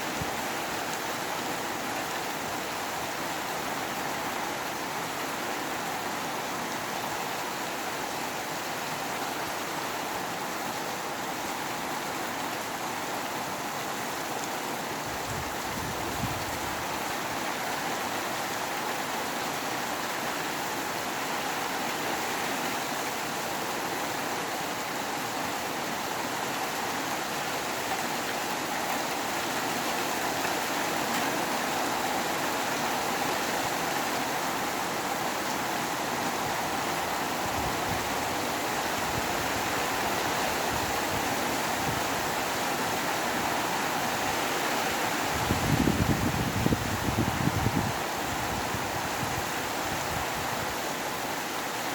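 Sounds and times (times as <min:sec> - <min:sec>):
rain with wind: 0:00.0 - 0:51.9.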